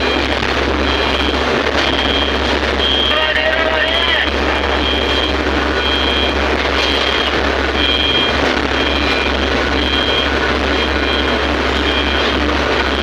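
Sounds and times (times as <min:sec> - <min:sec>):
backup alarm beeping: 0:00.0 - 0:13.0
diesel engine running: 0:00.0 - 0:13.0.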